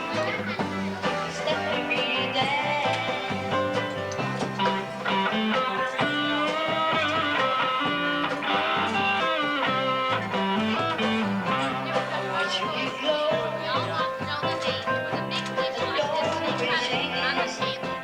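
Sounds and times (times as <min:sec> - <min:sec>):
steady bass line: 0:00.0 - 0:15.4
guitar instrumental music: 0:00.0 - 0:18.0.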